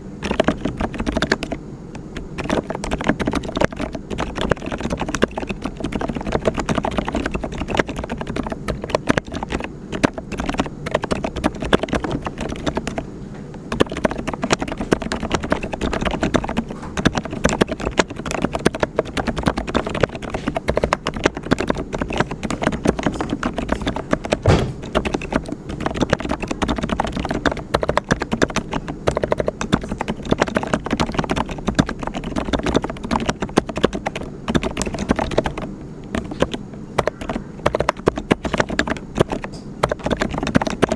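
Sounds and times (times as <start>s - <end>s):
mechanical keyboard typing: 0.2s - 40.9s.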